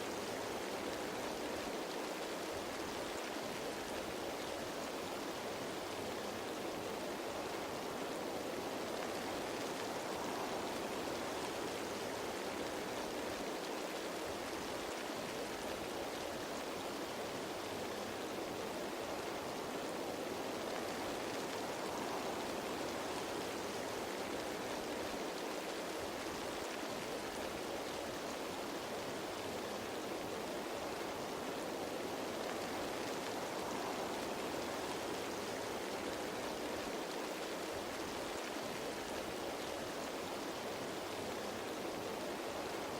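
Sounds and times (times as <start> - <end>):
rain falling on leaves: 0.0 - 42.9.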